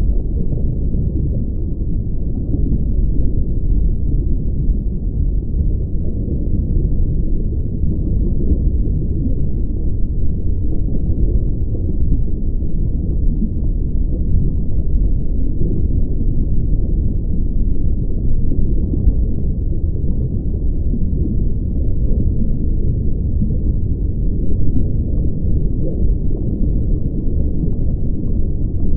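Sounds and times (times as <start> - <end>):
steady low rumble: 0.0 - 28.9.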